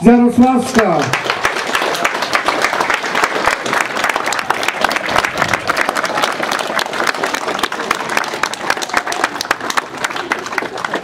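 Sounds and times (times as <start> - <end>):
crowd clapping: 0.6 - 11.0.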